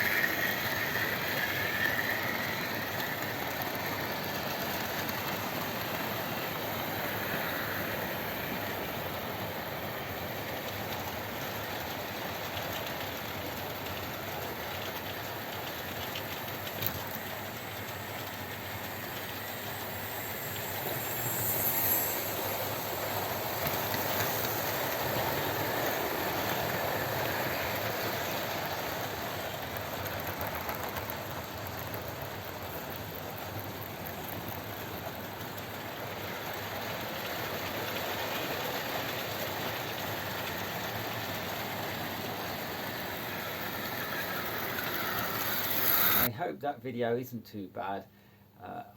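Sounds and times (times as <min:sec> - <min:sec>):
model train running on track: 0:00.0 - 0:46.5.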